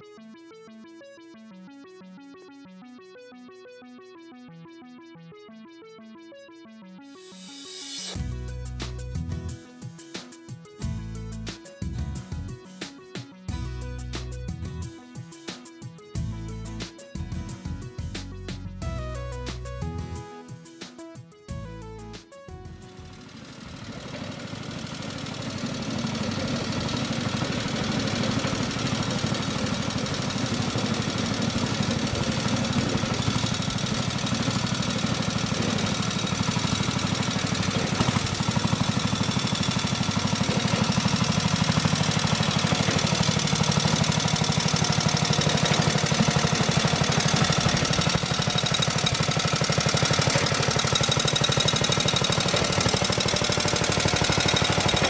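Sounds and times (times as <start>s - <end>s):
petrol engine rapid beat: 8.1s - 55.0s.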